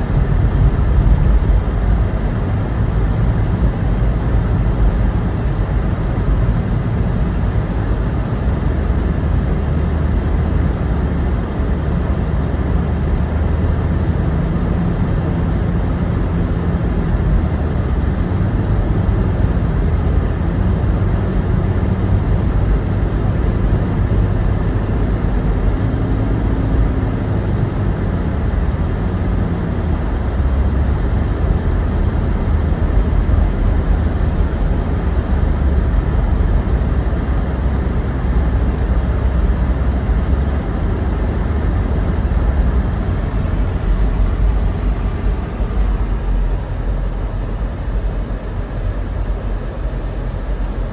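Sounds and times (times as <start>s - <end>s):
car engine and tyres rumbling: 0.0s - 50.9s.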